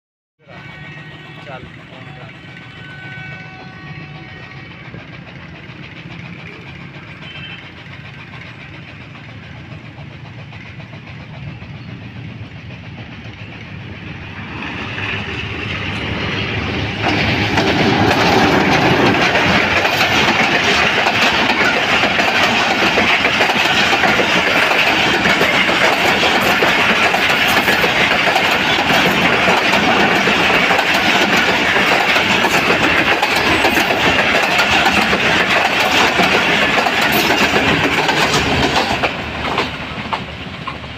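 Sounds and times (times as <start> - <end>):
diesel locomotive passing: 0.4 - 40.9
train wheels clattering on rails: 1.4 - 40.9.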